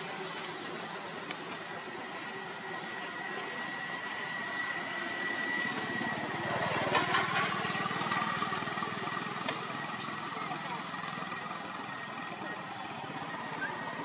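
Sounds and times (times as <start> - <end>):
motor engine running: 0.0 - 14.0.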